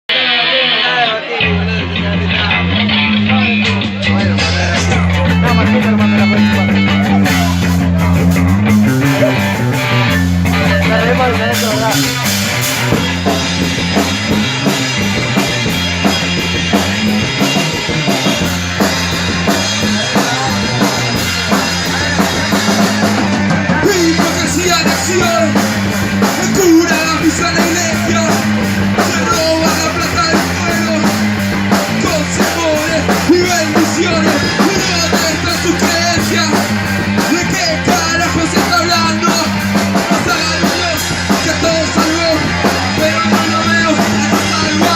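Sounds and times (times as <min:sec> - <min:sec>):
rock band playing: 0:00.1 - 0:44.9
drums pounding: 0:01.4 - 0:44.9.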